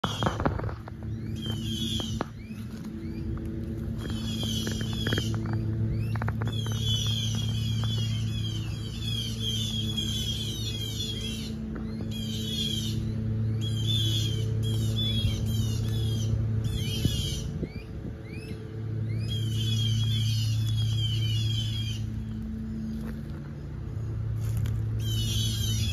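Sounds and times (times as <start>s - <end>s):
birds chattering alarm calls: 0.0s - 25.9s
low hum: 0.0s - 25.9s.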